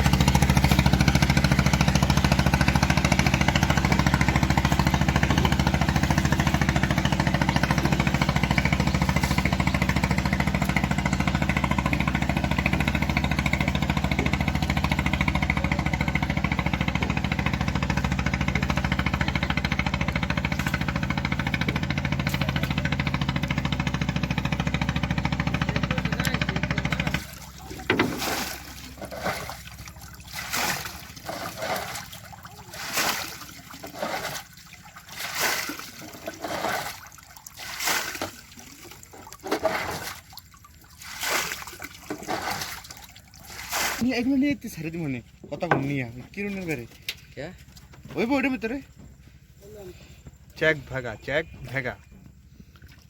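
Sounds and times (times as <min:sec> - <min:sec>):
water splashing: 0:00.0 - 0:44.2
engine running with low hum: 0:00.0 - 0:53.0.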